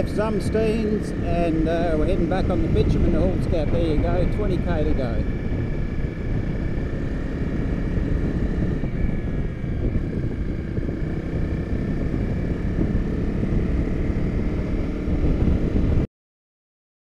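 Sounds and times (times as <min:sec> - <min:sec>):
motorcycle engine running: 0:00.0 - 0:16.1
wind rushing over microphone: 0:00.0 - 0:16.1.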